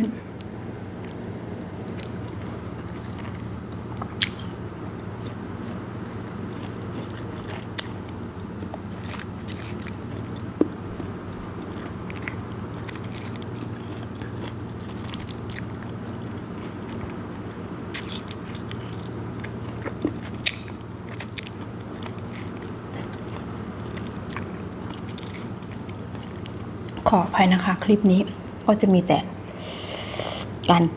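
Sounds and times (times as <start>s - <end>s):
steady low hum: 0.0s - 30.9s
chewing crunchy fruit: 0.4s - 27.8s.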